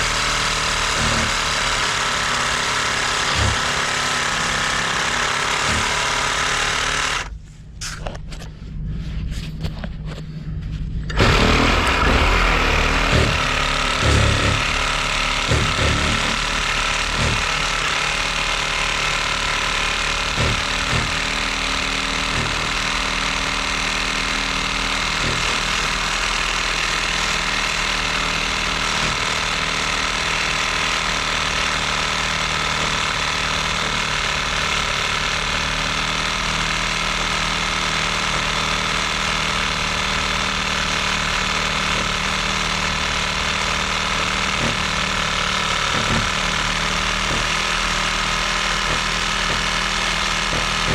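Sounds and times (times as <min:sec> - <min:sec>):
motor humming: 0:00.0 - 0:07.4, 0:11.0 - 0:50.9.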